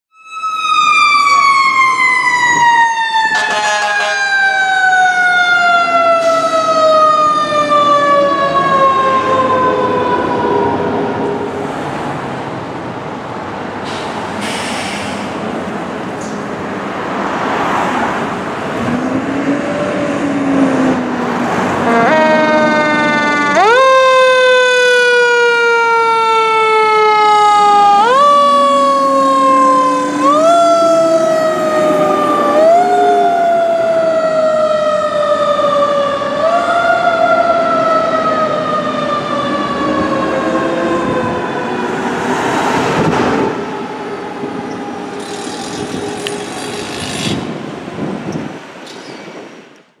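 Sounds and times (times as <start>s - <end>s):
fire engine siren wailing: 0.1s - 13.2s, 17.6s - 48.5s.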